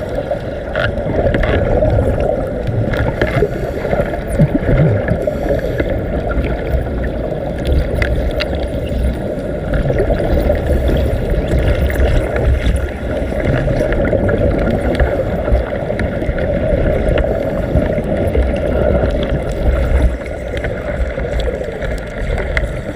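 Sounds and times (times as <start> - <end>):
small crackles: 0.0 - 22.9
underwater bubbling and gurgling: 0.0 - 22.9.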